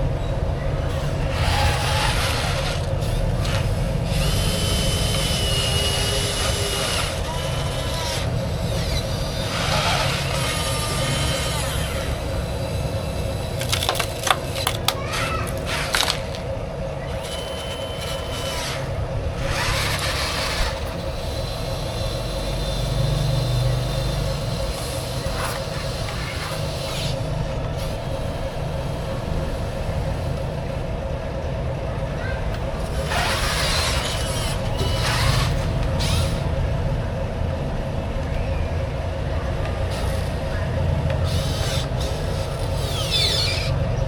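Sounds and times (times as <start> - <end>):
high electric motor whine: 0.0 - 31.8, 32.6 - 44.0
constant low rumble: 0.0 - 44.0.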